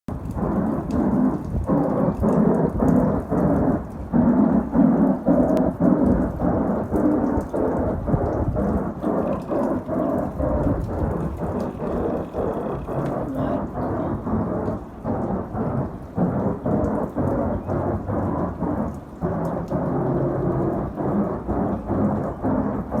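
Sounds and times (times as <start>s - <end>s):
low pulsing rumbling drone: 0.1s - 23.0s.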